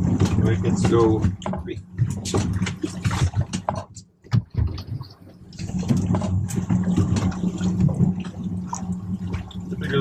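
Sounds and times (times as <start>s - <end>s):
outboard engines idling: 0.0s - 10.0s.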